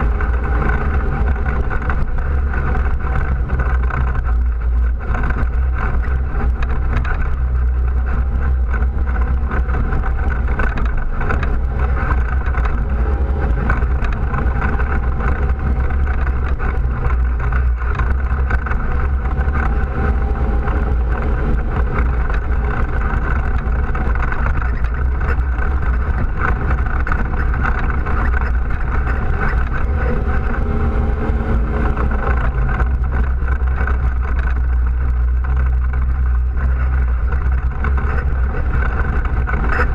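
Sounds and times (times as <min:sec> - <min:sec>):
atv engine rumbling: 0:00.0 - 0:39.9.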